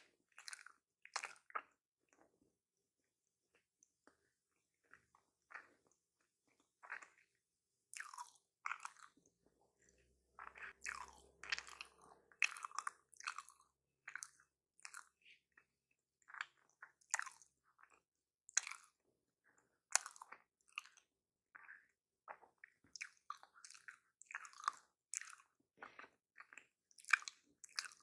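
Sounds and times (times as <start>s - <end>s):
chewing and biting food: 0.3s - 2.3s, 4.8s - 28.0s.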